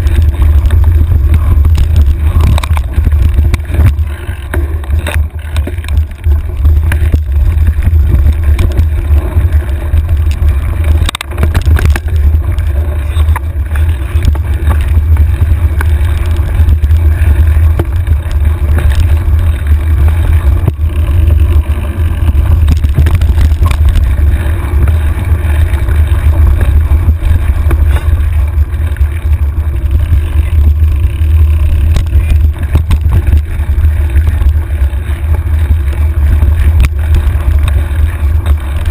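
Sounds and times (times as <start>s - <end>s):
bike knocks and rattles: 0.0s - 38.9s
wind buffeting microphone: 0.0s - 38.9s.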